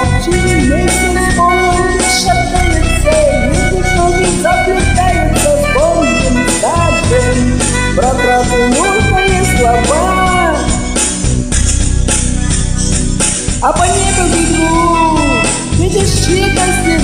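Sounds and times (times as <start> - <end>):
sliding lead melody: 0.0 - 17.0
steady bass line: 0.0 - 17.0.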